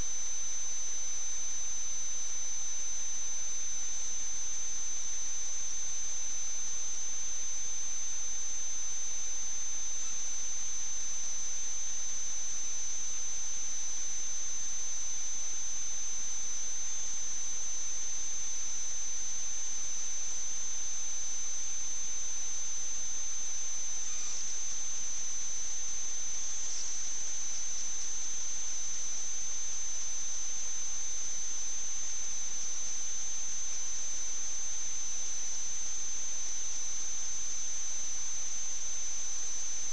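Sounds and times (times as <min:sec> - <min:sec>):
high-pitched electrical whine: 0:00.0 - 0:39.9.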